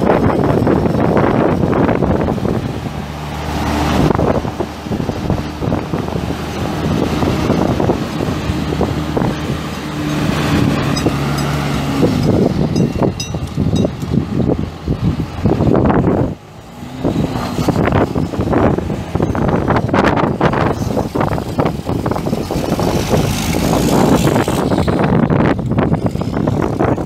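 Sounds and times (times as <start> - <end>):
diesel truck engine running: 0.0 - 27.0
wind buffeting microphone: 0.0 - 27.0.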